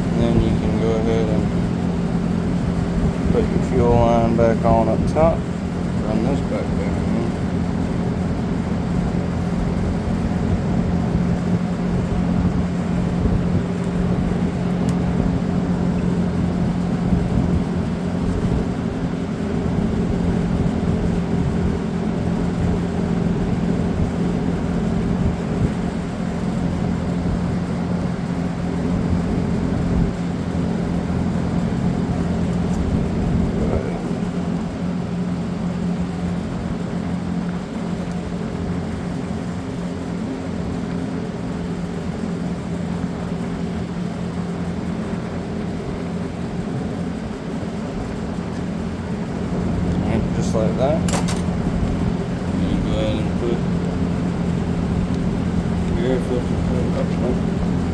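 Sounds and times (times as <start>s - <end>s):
machine hum: 0.0s - 57.9s.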